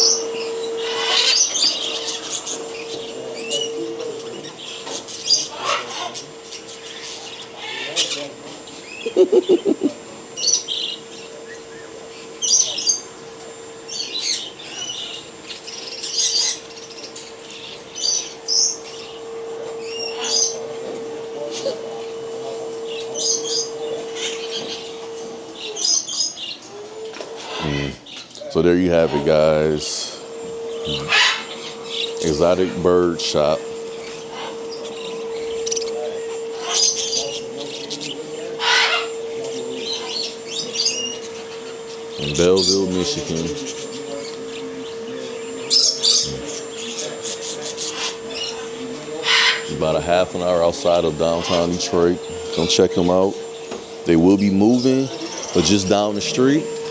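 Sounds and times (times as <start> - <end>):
caged birds chirping: 0.0 - 56.9
steady low hum: 0.0 - 56.9.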